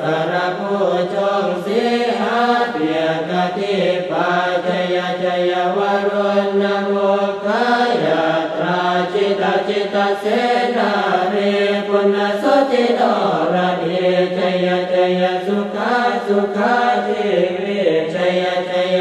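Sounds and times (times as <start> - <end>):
religious chanting: 0.0 - 19.0.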